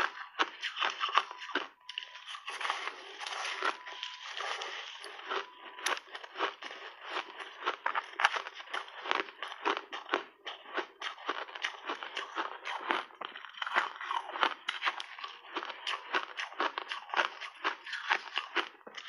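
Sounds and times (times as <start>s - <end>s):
ice being chewed: 0.0s - 19.0s.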